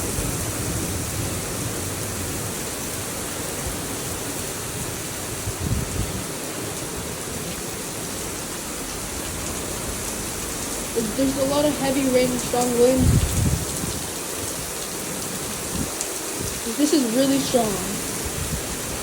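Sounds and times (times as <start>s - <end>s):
heavy rain pouring: 0.0s - 19.0s
strong wind: 0.0s - 19.0s.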